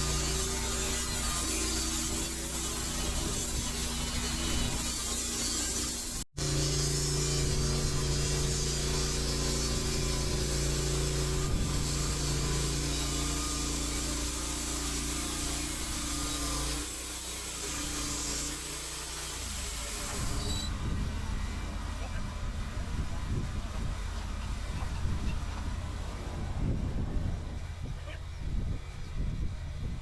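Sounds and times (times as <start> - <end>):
sawmill engine cutting log: 0.0 - 29.3.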